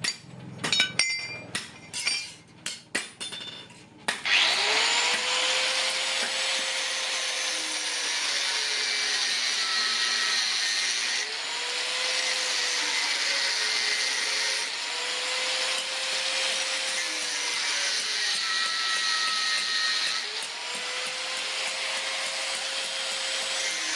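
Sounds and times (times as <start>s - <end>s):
power tool whining: 4.2s - 23.9s.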